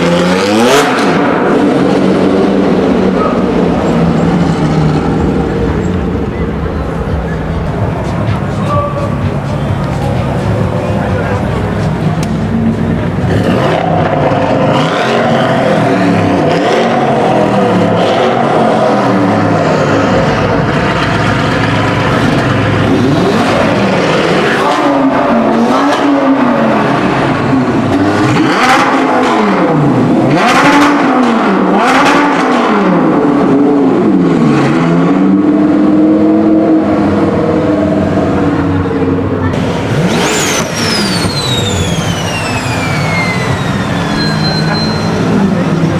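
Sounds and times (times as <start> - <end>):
supercar engines revving: 0.0 - 45.9.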